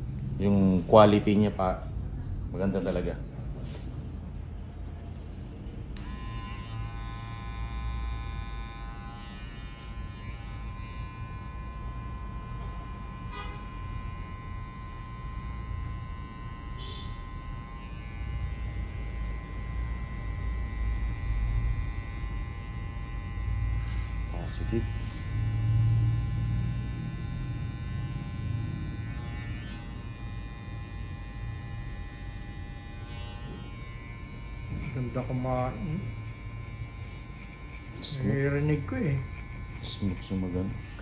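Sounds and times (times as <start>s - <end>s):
hair trimmer buzzing: 6.0s - 41.0s.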